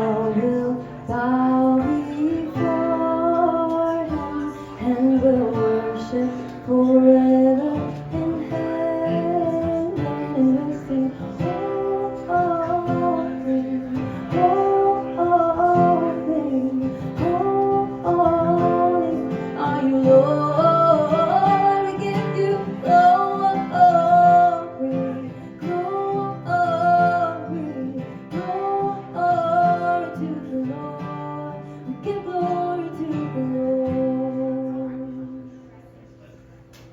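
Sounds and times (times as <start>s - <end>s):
person singing: 0.0s - 35.8s
acoustic guitar playing: 0.0s - 36.8s.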